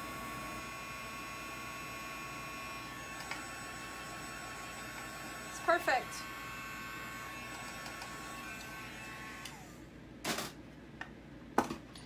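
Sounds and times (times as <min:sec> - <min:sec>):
hair dryer whining: 0:00.0 - 0:09.8.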